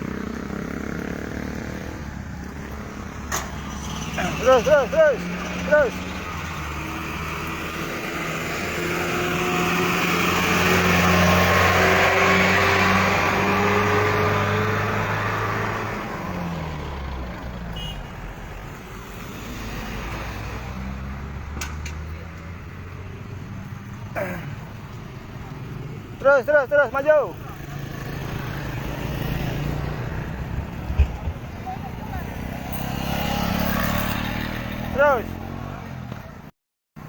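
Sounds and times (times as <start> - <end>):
road noise: 0.0 - 37.0.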